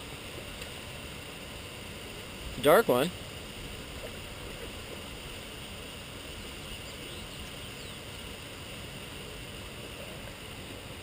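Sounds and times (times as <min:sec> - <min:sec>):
creek flowing over rocks: 0:00.0 - 0:11.0.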